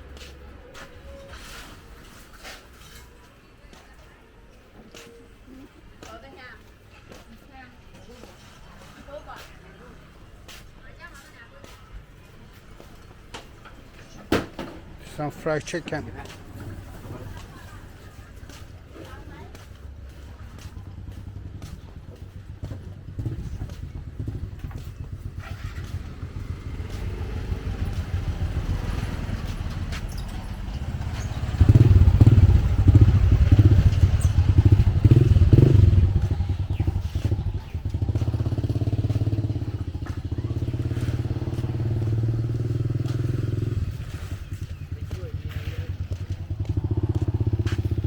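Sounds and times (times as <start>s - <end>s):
motorbike engines: 4.8s - 48.0s.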